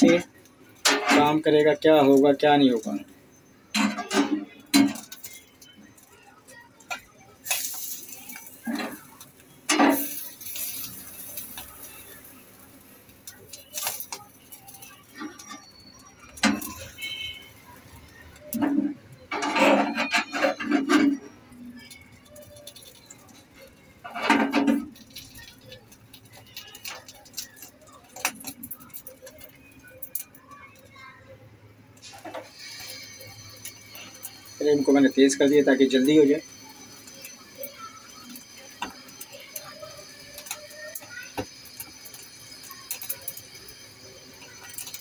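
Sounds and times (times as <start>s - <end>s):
gas burner hissing: 0.0s - 3.1s, 3.7s - 29.5s, 32.0s - 45.0s
skin crackling and popping in flame: 0.0s - 31.3s, 32.0s - 45.0s.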